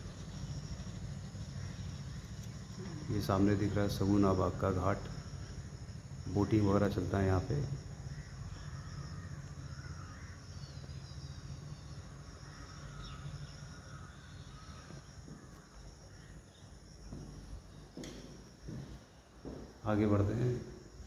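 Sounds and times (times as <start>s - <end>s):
faint bird calls: 0.0s - 21.0s
insects droning: 0.0s - 21.0s.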